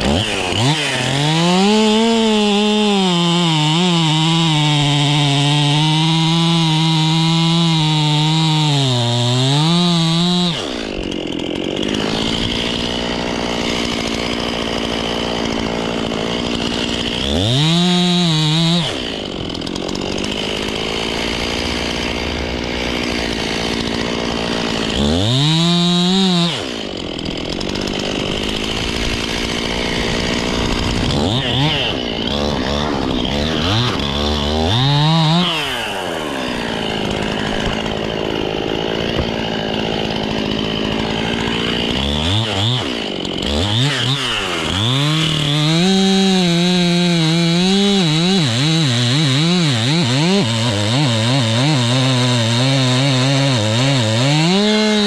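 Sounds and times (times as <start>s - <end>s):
chainsaw idling and revving: 0.0s - 55.0s.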